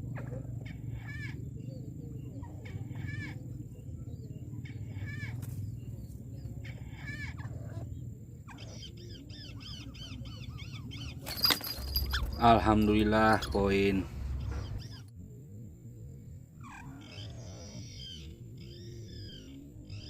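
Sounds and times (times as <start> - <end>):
bird calls: 0.0 - 20.0
steady low hum: 0.0 - 20.0.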